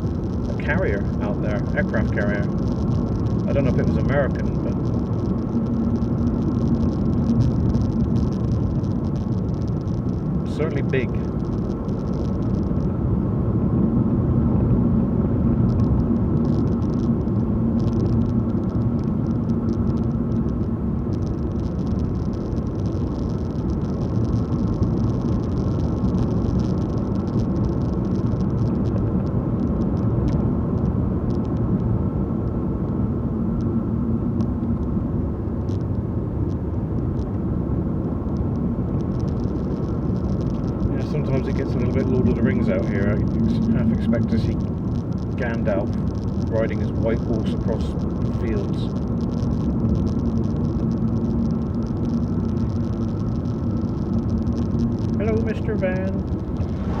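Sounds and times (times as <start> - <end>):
tiny ticks: 0.0 - 13.0, 15.5 - 56.9
car engine and tyre rumble: 0.0 - 57.0
faint steady hum: 0.0 - 57.0.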